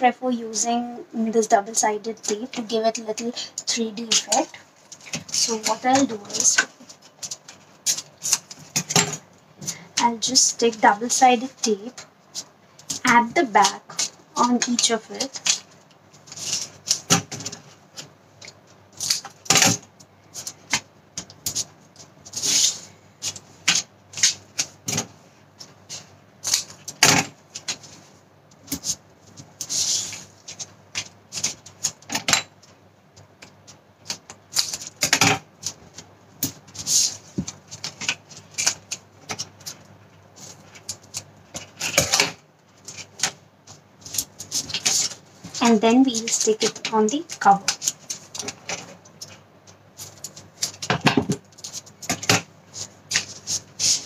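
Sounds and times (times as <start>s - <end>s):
paper crinkling and tapping: 4.0s - 54.0s.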